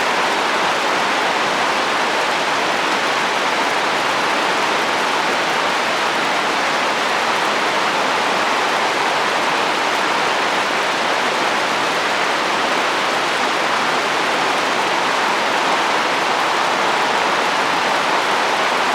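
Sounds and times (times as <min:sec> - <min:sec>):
rain falling on a roof: 0:00.0 - 0:18.9
wind: 0:00.0 - 0:18.9.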